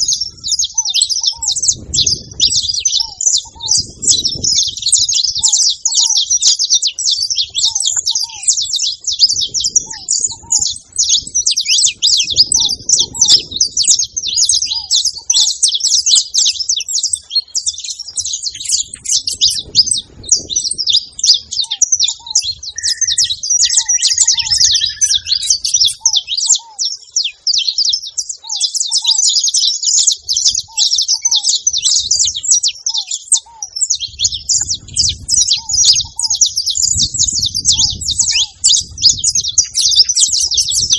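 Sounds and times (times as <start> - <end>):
finches chirping and singing: 0.0 - 40.9.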